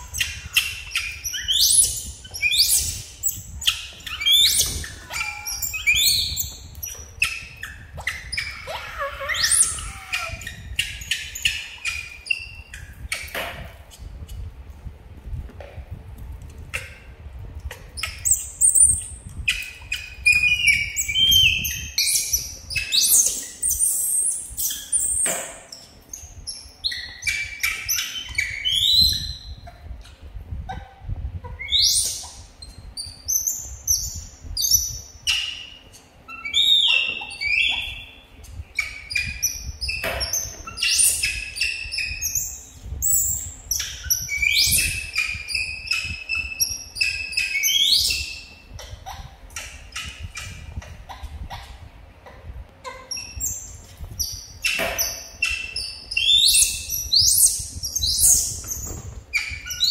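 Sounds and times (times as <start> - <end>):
monkeys squealing and chirping: 0.0 - 13.2, 17.8 - 30.0, 31.5 - 51.9, 52.8 - 59.9.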